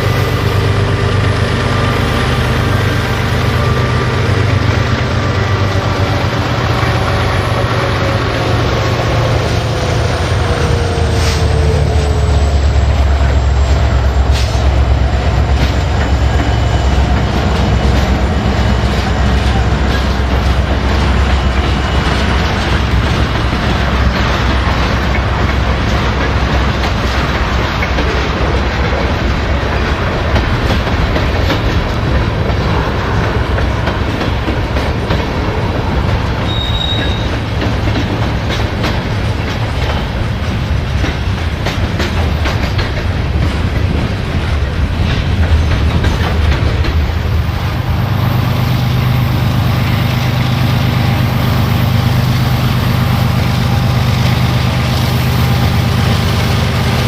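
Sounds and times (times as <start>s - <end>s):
train rumble: 0.0s - 57.0s
train wheels clicking on rail joints: 0.0s - 57.0s.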